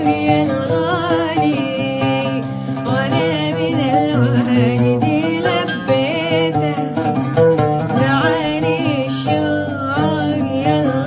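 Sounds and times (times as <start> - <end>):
boy singing: 0.0 - 7.0, 7.9 - 11.0
plucked oud: 0.0 - 11.0.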